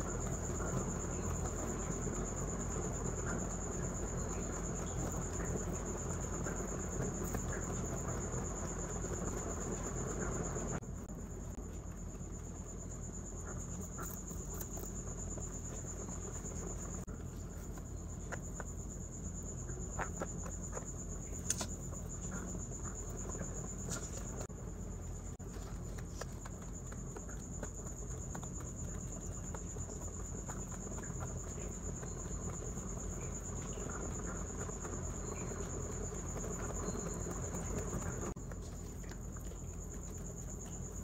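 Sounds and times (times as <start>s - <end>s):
faint high whine: 0.0s - 41.0s
rabbits chewing hay: 0.0s - 41.0s.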